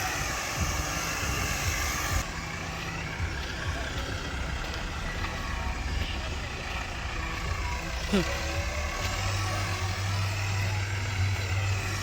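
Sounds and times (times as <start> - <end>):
diesel tractor engine rumbling: 0.0 - 12.0.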